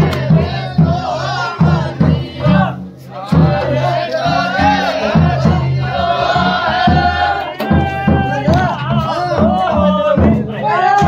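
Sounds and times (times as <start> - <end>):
frame drum beat: 0.0 - 11.0
men singing folk song: 0.0 - 11.0.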